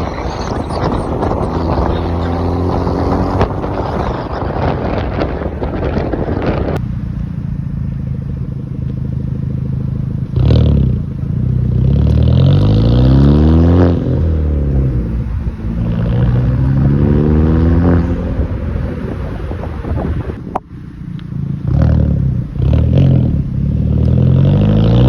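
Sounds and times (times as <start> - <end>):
car exhaust revving: 0.0 - 25.0.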